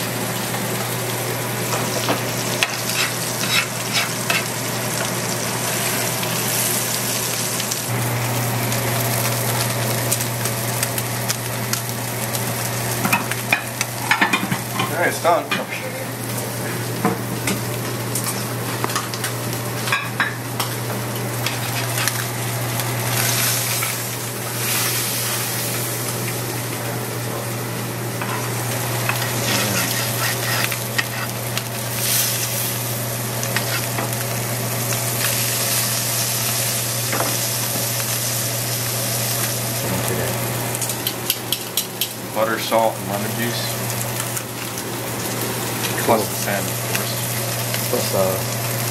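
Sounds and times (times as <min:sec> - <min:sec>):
fish sizzling in a pan: 0:00.0 - 0:26.6, 0:28.0 - 0:48.9.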